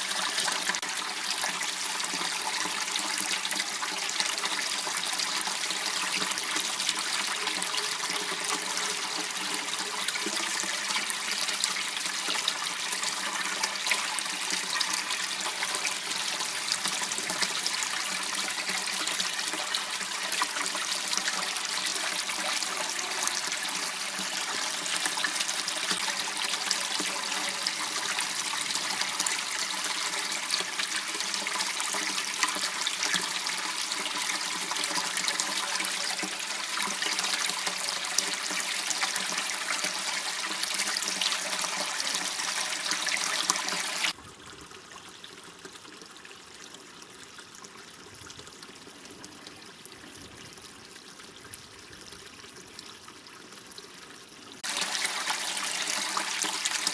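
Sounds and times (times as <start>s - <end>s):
water running and trickling: 0.0s - 56.9s.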